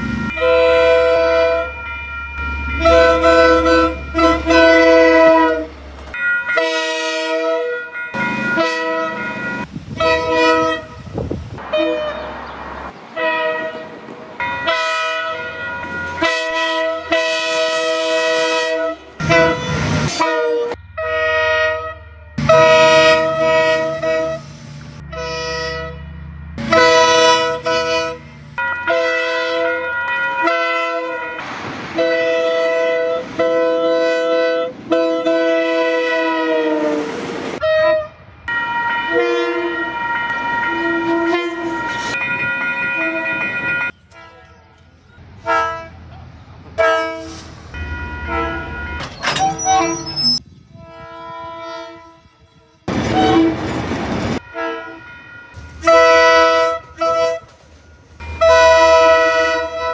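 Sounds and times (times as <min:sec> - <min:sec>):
locomotive air horn blasts: 0:00.0 - 0:01.8, 0:02.4 - 0:05.8, 0:06.5 - 0:12.4, 0:13.2 - 0:44.8, 0:45.4 - 0:46.1, 0:46.8 - 0:53.8, 0:54.4 - 0:59.9
low train rumble: 0:00.0 - 0:59.9.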